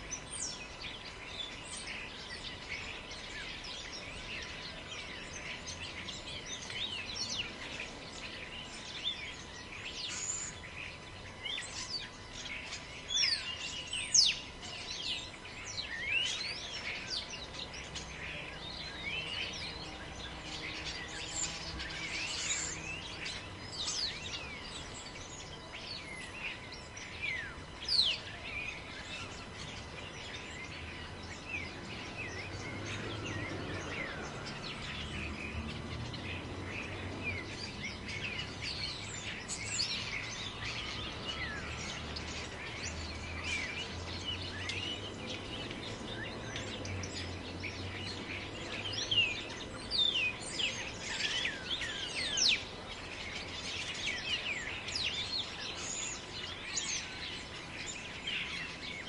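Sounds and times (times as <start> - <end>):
small birds chirping: 0.0 - 59.0
wind in a forest: 0.0 - 59.0.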